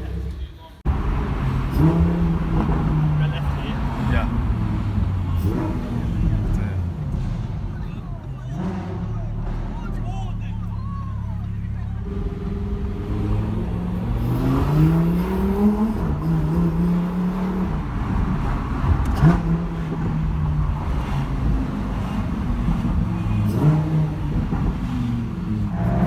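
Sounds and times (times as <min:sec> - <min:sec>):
supercar engine revving: 0:00.0 - 0:26.0.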